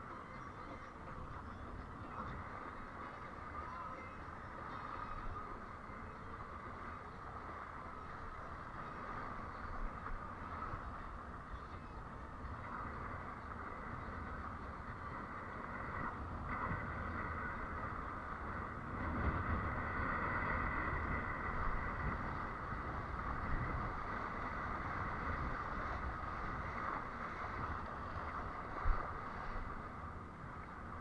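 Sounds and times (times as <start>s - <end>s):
water rushing along board: 0.0s - 31.0s
wind buffeting microphone: 0.0s - 31.0s.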